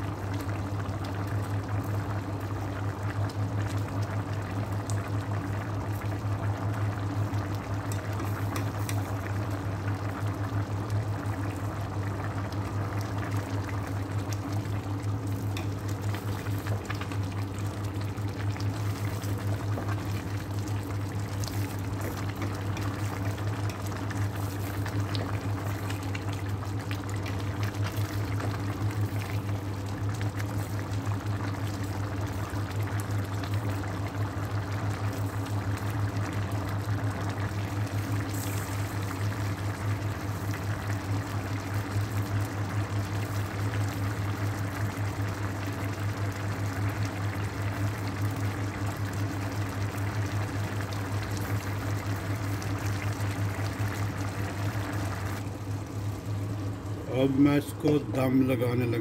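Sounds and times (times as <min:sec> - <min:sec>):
rice and broth bubbling: 0:00.0 - 0:59.0
steady low hum: 0:00.0 - 0:59.0.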